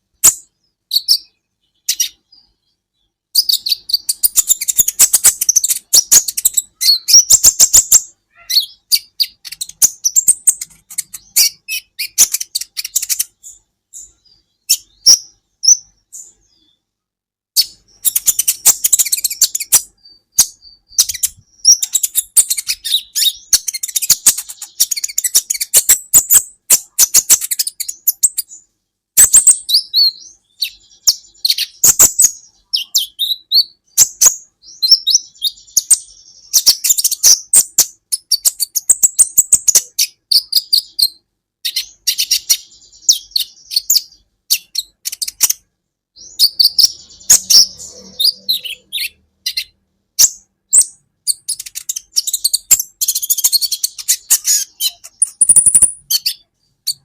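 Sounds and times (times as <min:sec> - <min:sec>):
sunbird chirping and twittering: 0:00.0 - 0:16.9, 0:17.6 - 0:57.0.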